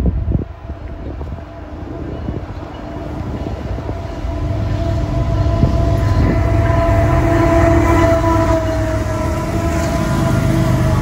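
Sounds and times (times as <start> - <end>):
locomotive engine rumble: 0.0 - 11.0
train wheel noise: 0.0 - 11.0.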